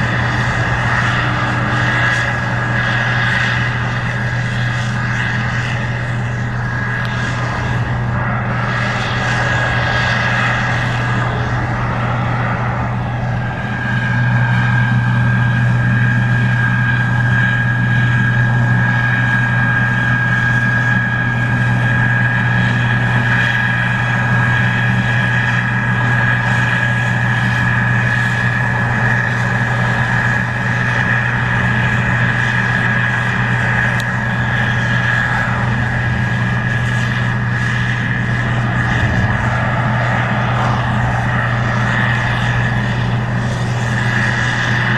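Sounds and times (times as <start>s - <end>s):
combine harvester engine drone: 0.0s - 44.9s
high whine: 0.0s - 44.9s.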